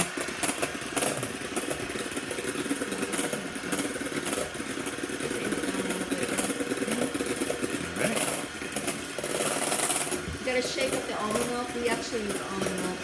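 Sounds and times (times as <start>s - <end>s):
electric hand mixer whipping: 0.0s - 13.0s.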